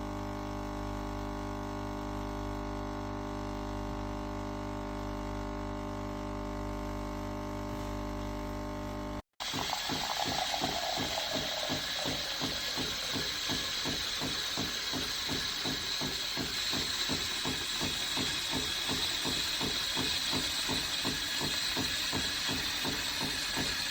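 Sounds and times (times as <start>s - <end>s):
coffee machine hissing and pulsing: 1.0s - 23.9s.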